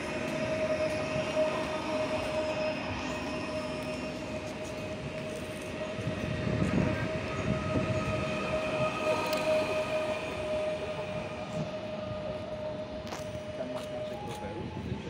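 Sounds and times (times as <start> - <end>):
electric train whine: 0.0 - 15.0
train rail rumble: 0.0 - 15.0.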